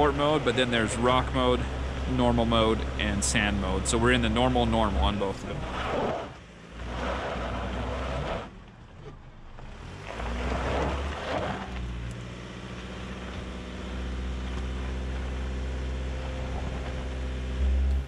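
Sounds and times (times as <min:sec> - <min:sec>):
car engine at full throttle: 0:00.0 - 0:18.0.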